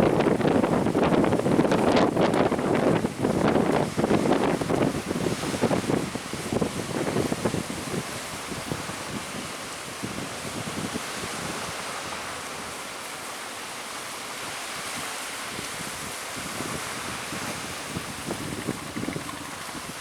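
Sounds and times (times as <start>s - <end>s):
waves breaking: 0.0s - 20.0s
wind: 0.0s - 20.0s
wind buffeting microphone: 0.0s - 20.0s.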